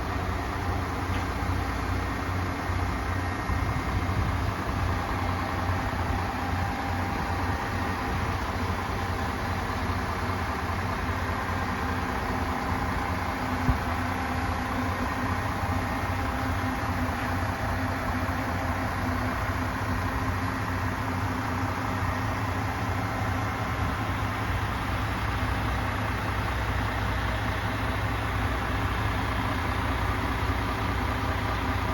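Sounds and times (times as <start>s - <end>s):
diesel truck engine idling: 0.0s - 31.9s.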